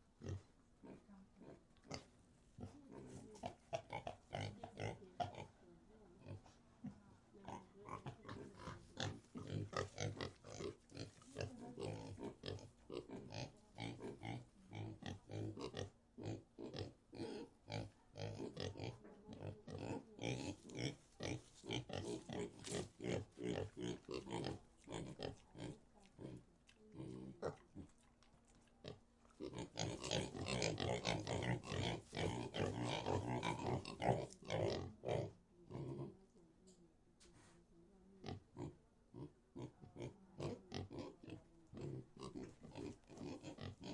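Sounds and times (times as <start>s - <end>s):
pigs grunting: 0.2s - 5.5s, 7.4s - 28.0s, 28.8s - 36.2s, 38.2s - 43.9s.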